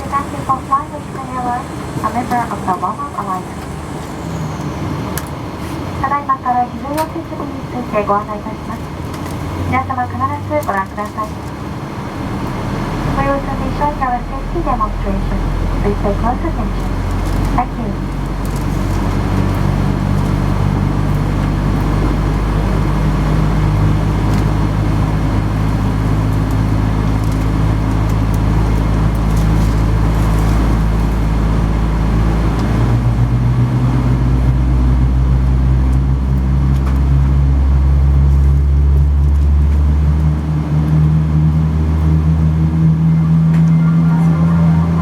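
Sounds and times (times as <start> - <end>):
low machinery drone in cabin: 0.0 - 45.0.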